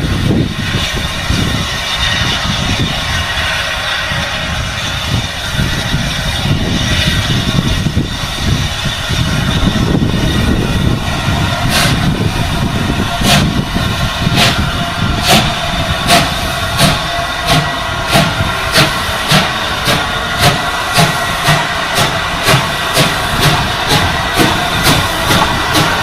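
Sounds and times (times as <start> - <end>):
steam locomotive chuffing: 0.0 - 26.0.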